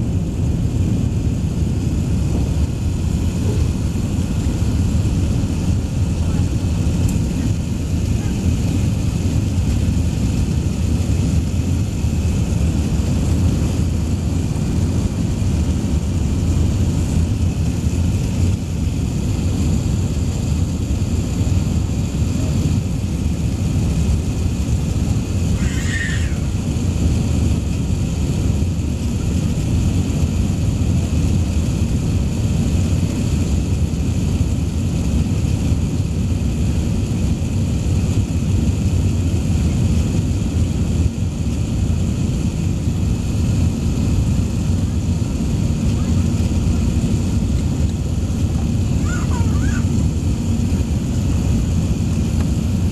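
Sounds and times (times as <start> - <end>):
rushing air: 0.0 - 33.5, 40.0 - 52.9
jet engines roaring: 0.0 - 52.9.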